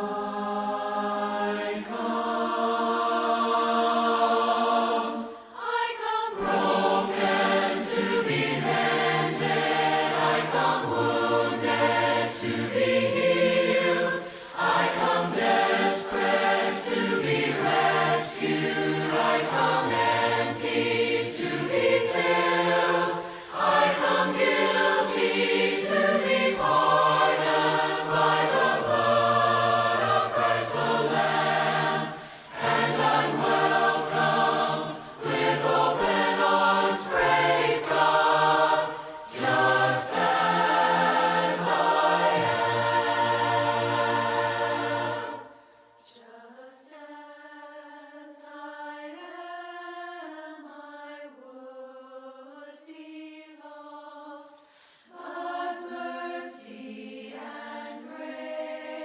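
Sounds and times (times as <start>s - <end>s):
group singing a hymn a cappella: 0.0s - 59.0s.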